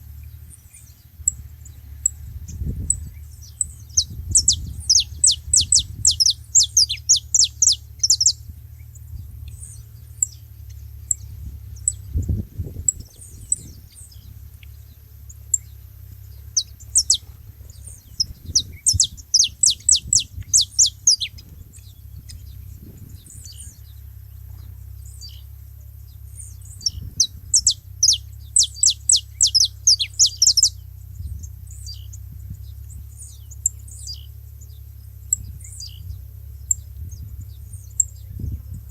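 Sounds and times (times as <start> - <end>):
finches chirping: 0.0 - 38.9
low rumble: 0.0 - 38.9.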